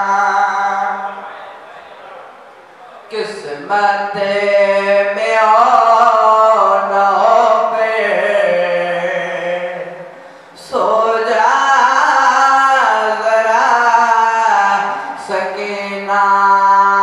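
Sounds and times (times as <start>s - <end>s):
young man chanting a lament: 0.0s - 2.2s, 2.8s - 17.0s.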